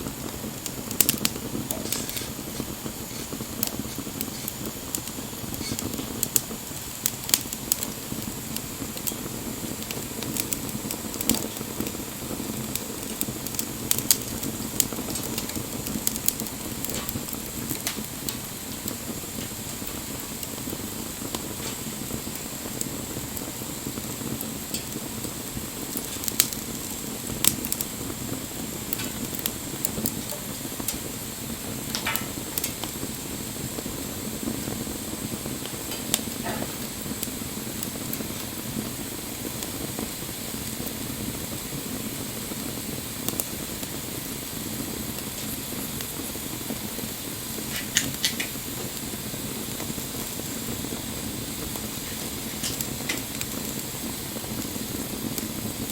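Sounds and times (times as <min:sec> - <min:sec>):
wood crackling and popping: 0:00.0 - 0:55.9.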